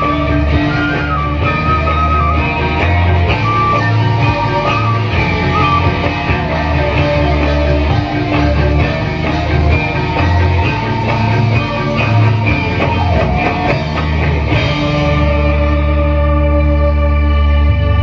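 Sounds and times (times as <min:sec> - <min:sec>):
live band instrumental music: 0:00.0 - 0:18.0.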